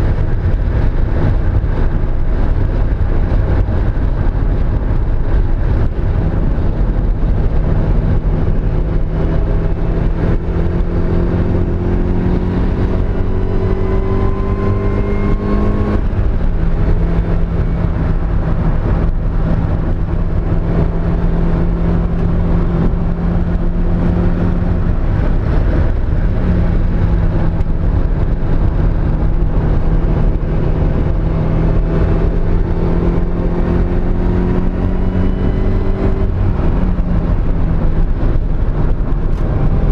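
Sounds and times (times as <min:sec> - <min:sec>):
car engine running under load: 0:00.0 - 0:39.9.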